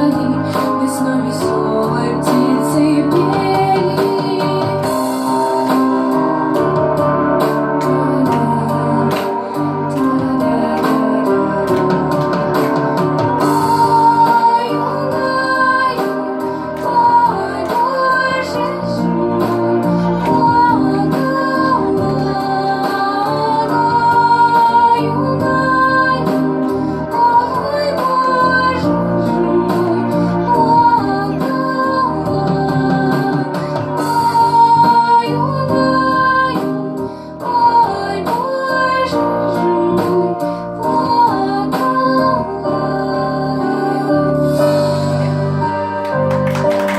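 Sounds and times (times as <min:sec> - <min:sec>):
woman singing: 0:00.0 - 0:06.3, 0:07.4 - 0:46.0
instrumental accompaniment: 0:00.0 - 0:46.9.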